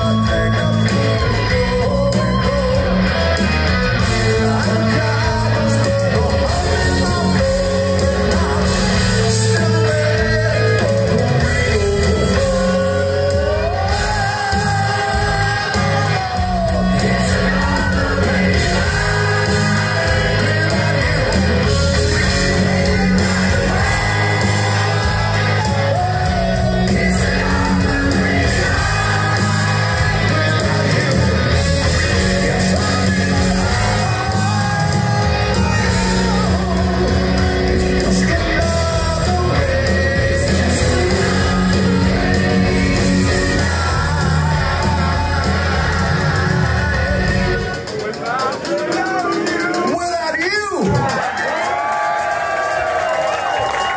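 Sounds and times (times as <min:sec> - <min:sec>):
man singing: 0:00.0 - 0:51.2
hard rock band playing: 0:00.0 - 0:53.9.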